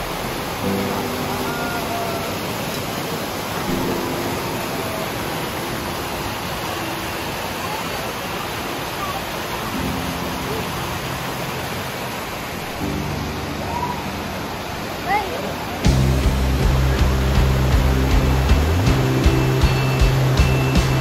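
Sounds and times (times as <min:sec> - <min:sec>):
stream pouring down waterfall: 0:00.0 - 0:21.0.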